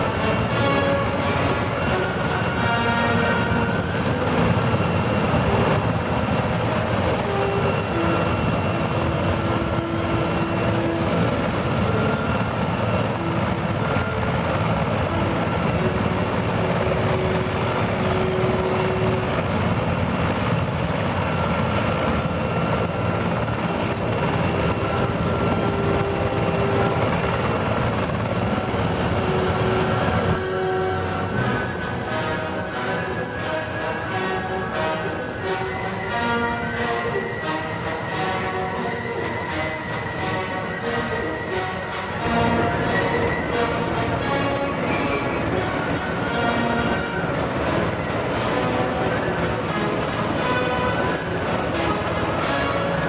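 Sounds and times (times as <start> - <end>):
helicopter turbines and rotor: 0.0 - 53.0.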